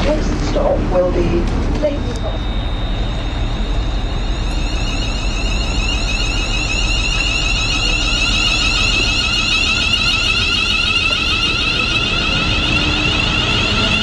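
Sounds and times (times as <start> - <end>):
train rumble: 0.0 - 14.0
train door warning alarm: 1.6 - 14.0.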